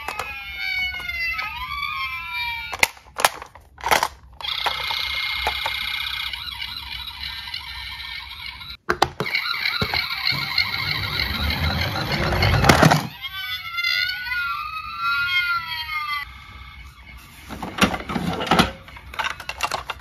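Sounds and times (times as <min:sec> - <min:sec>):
toy electronic siren: 0:00.0 - 0:03.0, 0:04.4 - 0:17.5.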